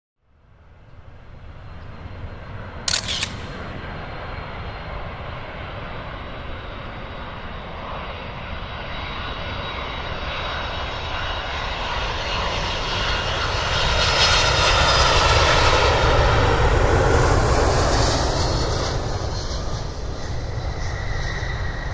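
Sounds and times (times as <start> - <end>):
jet engine whine: 0.4 - 21.9
jet airliner rumble: 0.6 - 21.9.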